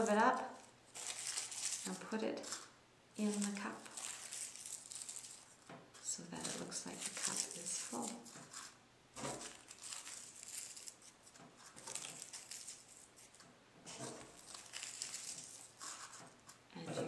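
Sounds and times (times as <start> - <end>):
tissue paper crinkling: 0.0 - 5.6, 6.4 - 16.6.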